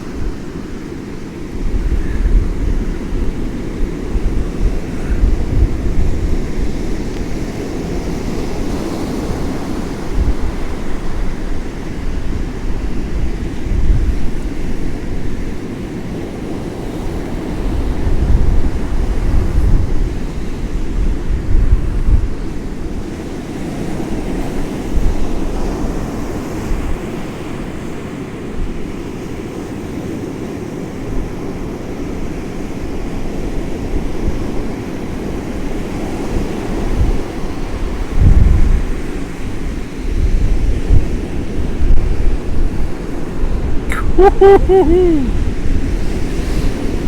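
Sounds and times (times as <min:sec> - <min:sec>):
wind buffeting microphone: 0:00.0 - 0:29.0, 0:31.0 - 0:47.0.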